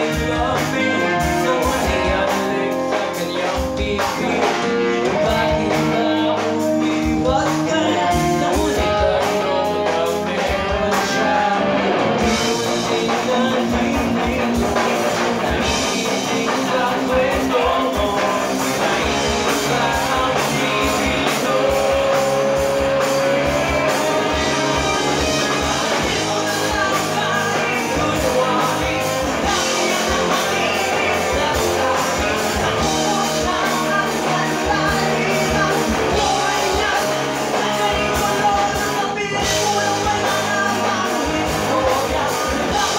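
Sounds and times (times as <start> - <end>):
bass guitar: 0.0 - 42.9
drum kit: 0.0 - 42.9
electric guitars: 0.0 - 42.9
man singing: 0.0 - 42.9.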